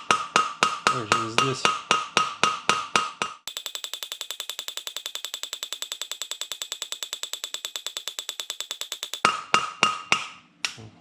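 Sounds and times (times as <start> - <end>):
rapid metallic tapping: 0.0 - 10.3.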